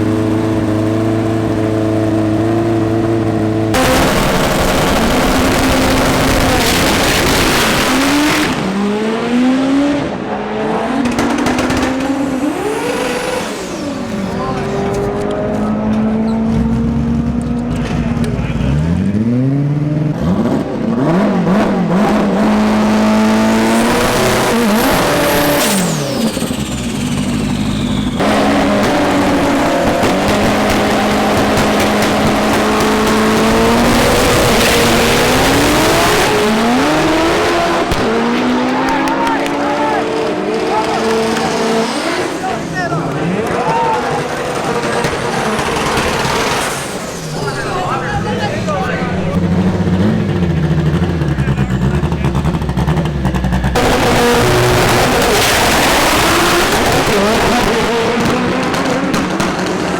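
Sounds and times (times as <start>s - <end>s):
drag car accelerating: 0.0s - 59.9s.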